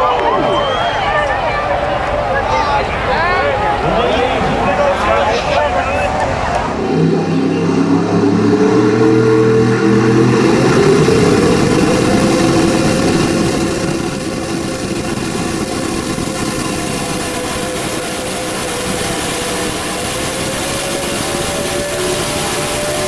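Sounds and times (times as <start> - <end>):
truck engine running hard: 0.0 - 23.0.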